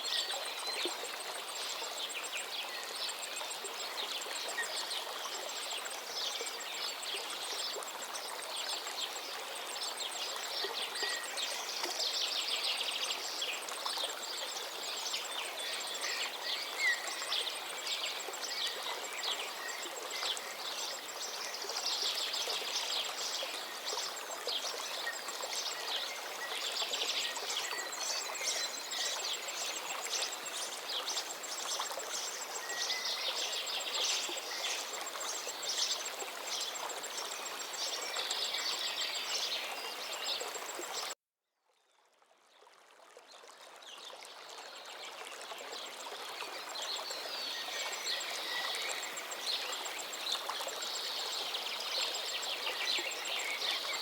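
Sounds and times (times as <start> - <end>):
river flowing: 0.0 - 41.2, 42.6 - 54.0.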